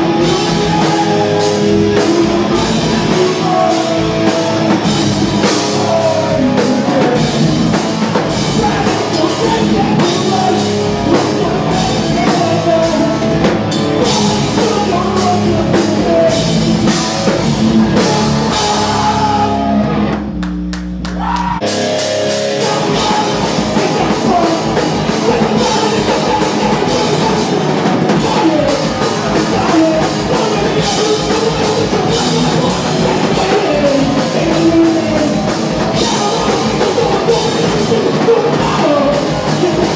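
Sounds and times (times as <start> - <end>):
person singing: 0.0 - 20.0, 21.1 - 39.9
bass guitar: 0.0 - 39.9
distorted electric guitars: 0.0 - 39.9
drum kit: 0.0 - 39.9.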